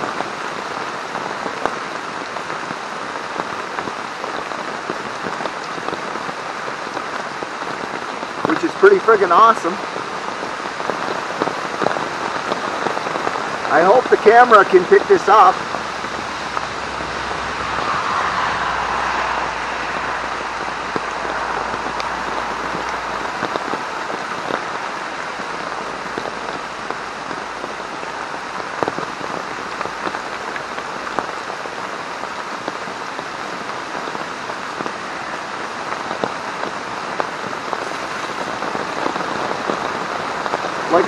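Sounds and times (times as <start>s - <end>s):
heavy rain pattering on tarp: 0.0s - 41.0s.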